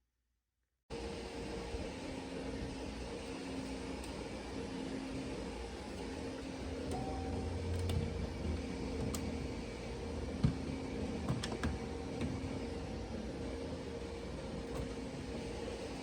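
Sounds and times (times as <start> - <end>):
mechanical hum: 0.9 - 16.0.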